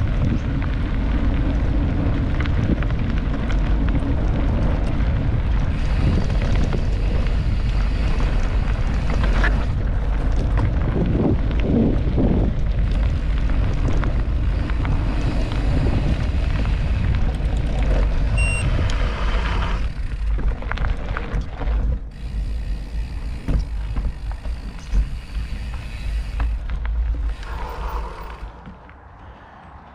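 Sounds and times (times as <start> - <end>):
bike tyre noise and rattle: 0.0 - 29.9
wind buffeting microphone: 0.0 - 29.9.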